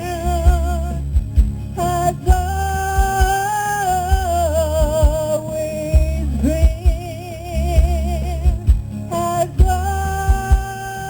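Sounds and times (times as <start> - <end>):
person singing with vibrato: 0.0 - 11.0.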